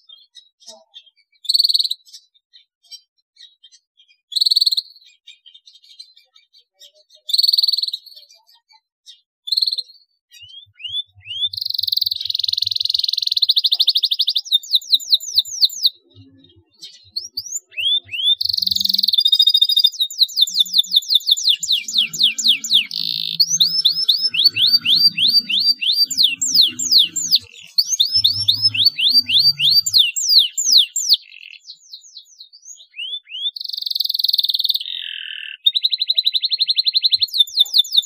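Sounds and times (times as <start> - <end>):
canary singing: 3.0 - 38.0.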